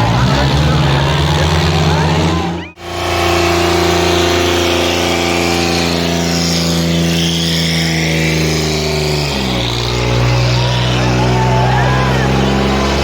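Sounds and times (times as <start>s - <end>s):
tractor diesel engines running: 0.0s - 13.0s.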